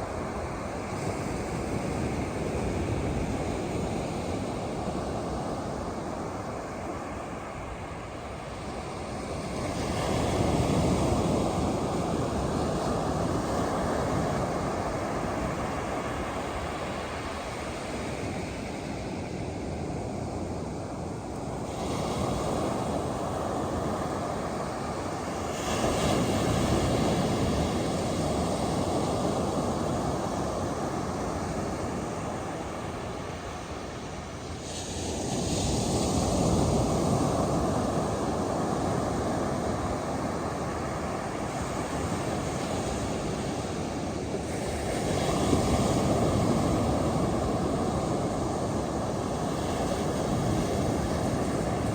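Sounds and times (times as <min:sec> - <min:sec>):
waves breaking on beach: 0:00.0 - 0:51.9.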